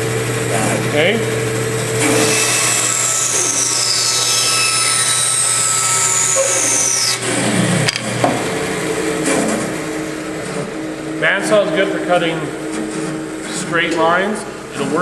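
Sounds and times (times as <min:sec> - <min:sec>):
bandsaw blade whine: 0:00.0 - 0:15.0
bandsaw motor hum: 0:00.0 - 0:15.0.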